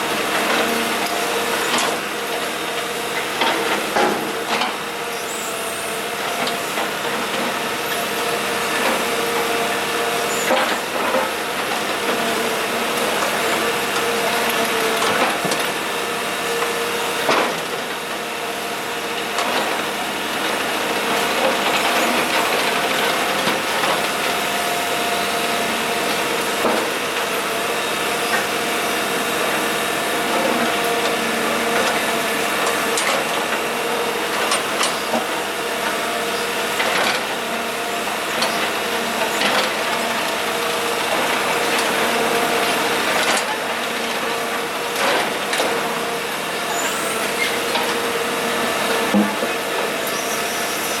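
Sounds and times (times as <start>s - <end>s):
excavator engine and hydraulics: 0.0s - 51.0s.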